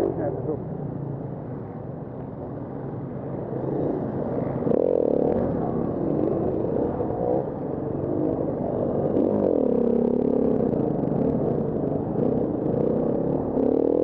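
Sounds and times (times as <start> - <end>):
other dirt bikes running: 0.0 - 14.0.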